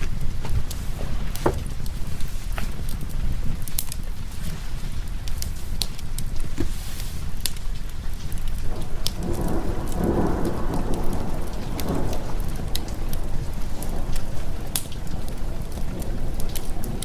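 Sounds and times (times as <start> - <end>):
constant low rumble: 0.0 - 17.0
fireplace fire crackling: 0.0 - 17.0
steady rain: 0.0 - 17.0
thunder rolling: 0.0 - 17.0.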